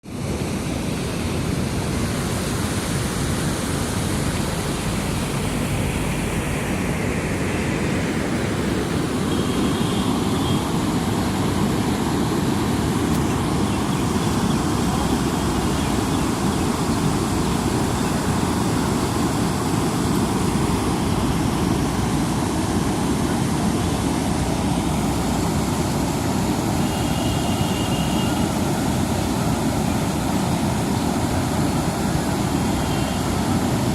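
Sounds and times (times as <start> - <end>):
river rushing: 0.0 - 33.9.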